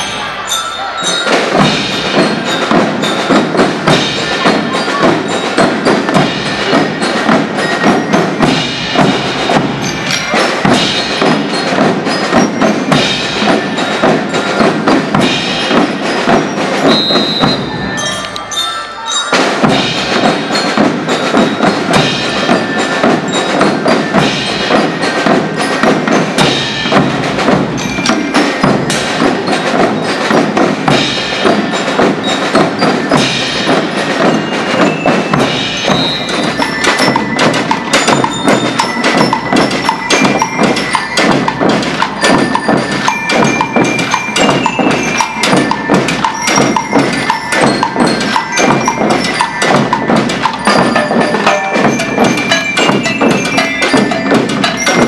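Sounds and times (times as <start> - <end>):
bell lyres melody: 0.0 - 55.0
snare drums: 1.1 - 18.5, 19.3 - 55.0.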